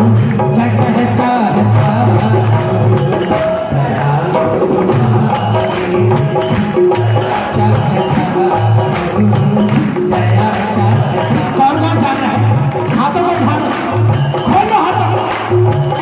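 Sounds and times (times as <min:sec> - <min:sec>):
devotional music over loudspeakers: 0:00.0 - 0:16.0.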